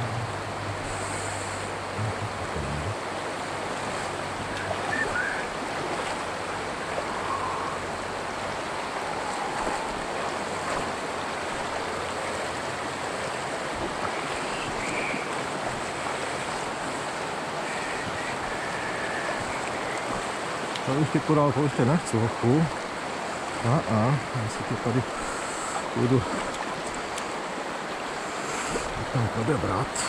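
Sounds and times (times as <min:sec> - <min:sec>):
river rushing over gravel: 0:00.0 - 0:30.0.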